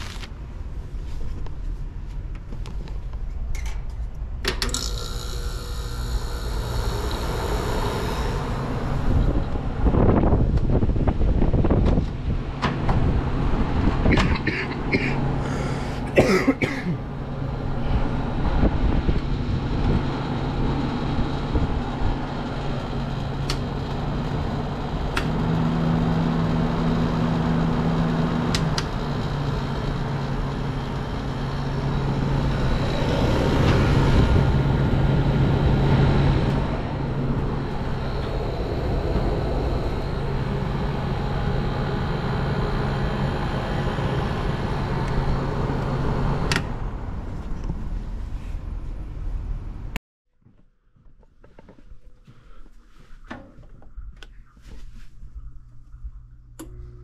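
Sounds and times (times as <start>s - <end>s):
air conditioner compressor hum: 0.0s - 47.3s, 51.9s - 57.0s
air conditioner fan rushing: 0.0s - 49.9s.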